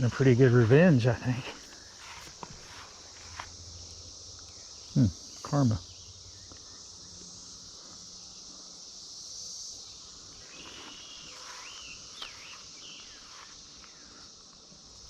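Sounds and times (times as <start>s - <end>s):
cicada chorus droning: 0.0s - 15.0s.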